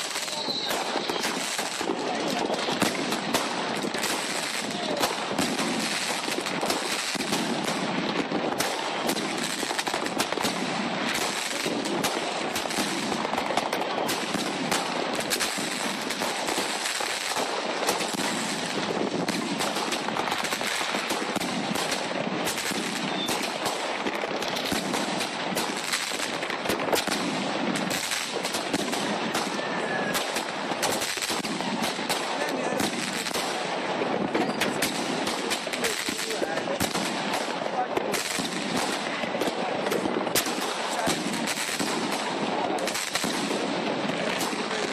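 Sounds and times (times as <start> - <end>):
firework cake firing bangs: 0.0 - 44.9.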